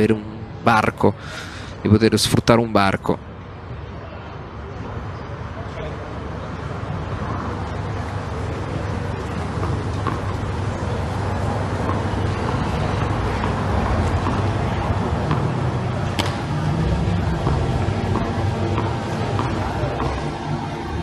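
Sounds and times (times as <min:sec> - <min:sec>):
low rumbling ambient noise: 0:00.0 - 0:21.0.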